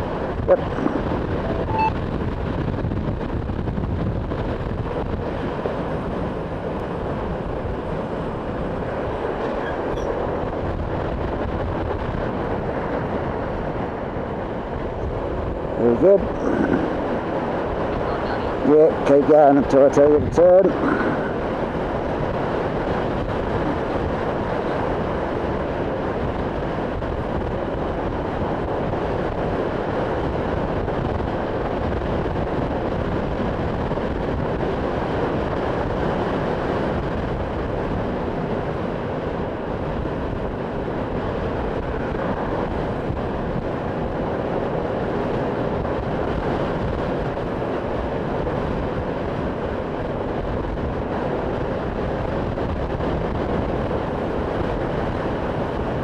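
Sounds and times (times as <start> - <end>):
motorcycle road noise: 0.0 - 56.0
wind rush: 0.0 - 56.0.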